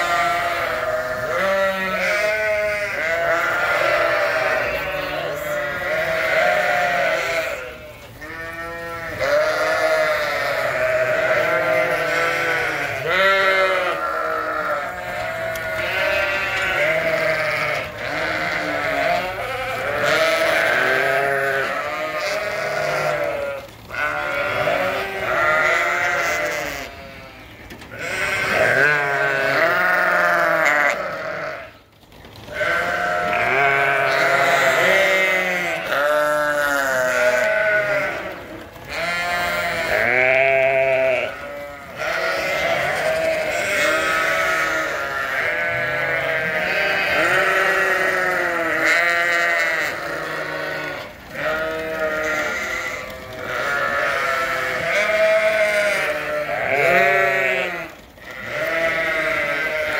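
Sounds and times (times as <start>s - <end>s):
sheep bleating: 0.0s - 31.9s, 32.5s - 59.9s.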